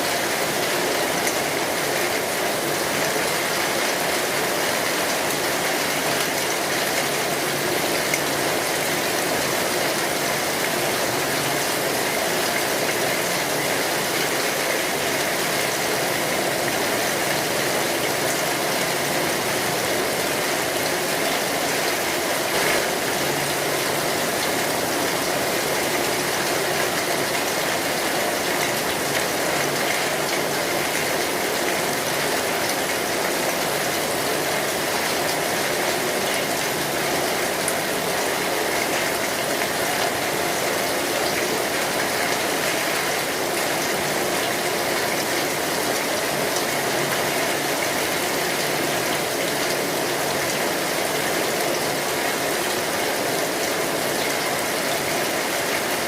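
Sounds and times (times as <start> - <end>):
rain drumming on metal roof: 0.0 - 56.0.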